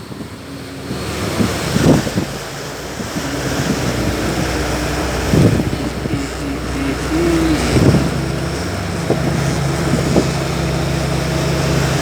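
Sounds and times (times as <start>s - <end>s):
motorboat engine running: 0.0s - 12.0s
water noise: 0.0s - 12.0s
wind buffeting microphone: 0.0s - 12.0s.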